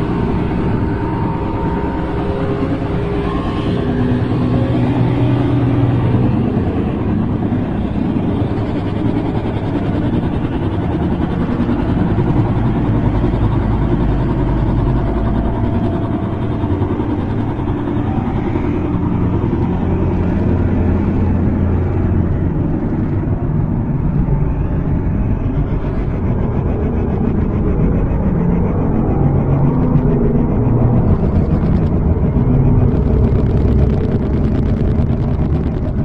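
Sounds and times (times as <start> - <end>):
low rumbling drone: 0.0 - 36.0.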